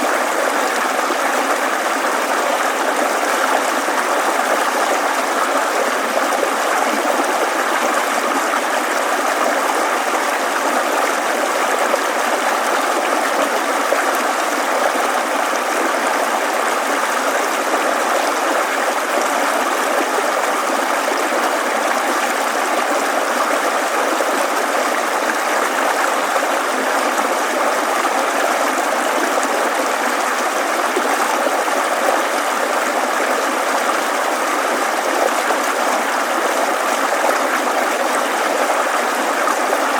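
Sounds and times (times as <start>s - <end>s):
mountain stream rushing and babbling: 0.0s - 39.9s.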